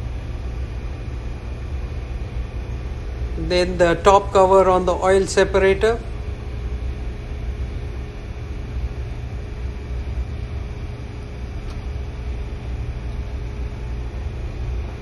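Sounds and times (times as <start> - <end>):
engine room machinery drone: 0.0 - 15.0.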